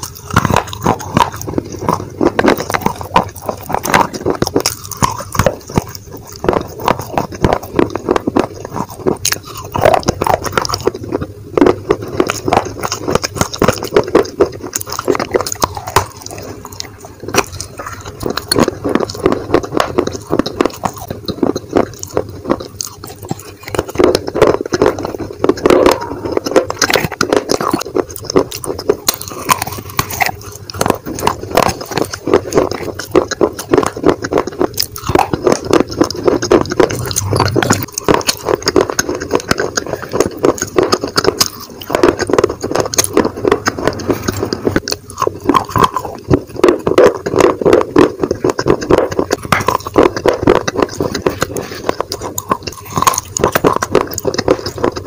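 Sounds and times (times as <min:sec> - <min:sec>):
person chewing crunchy clay: 0:00.0 - 0:55.0.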